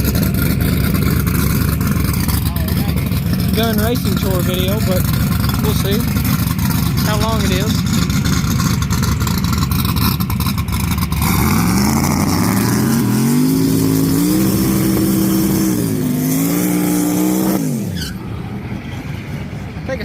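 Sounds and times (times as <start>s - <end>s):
drag car engine revving: 0.0s - 19.8s
tires spinning: 0.0s - 20.0s.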